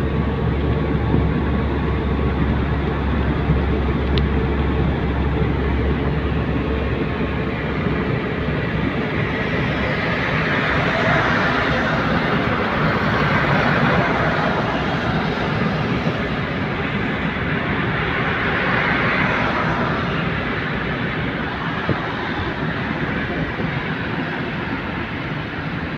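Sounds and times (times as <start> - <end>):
car road noise: 0.0 - 25.9.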